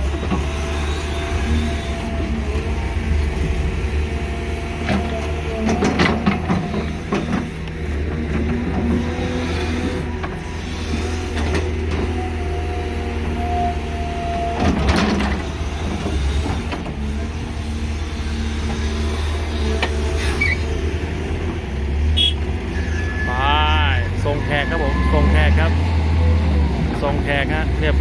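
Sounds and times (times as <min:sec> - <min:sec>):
excavator diesel engine running: 0:00.0 - 0:28.0
hydraulic whine: 0:00.0 - 0:28.0.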